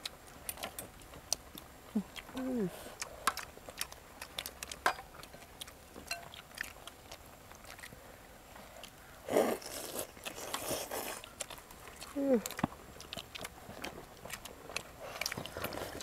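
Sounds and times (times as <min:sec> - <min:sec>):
crunching bread and chewing: 0:00.0 - 0:16.0.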